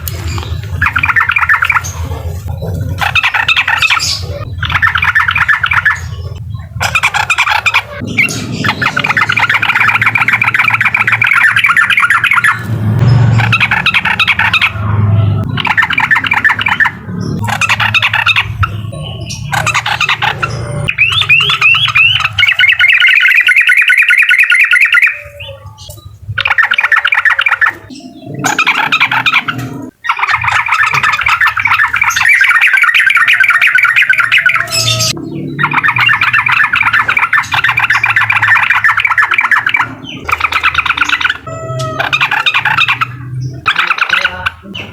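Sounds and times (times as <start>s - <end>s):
bird singing chattering trills: 0.0s - 44.9s.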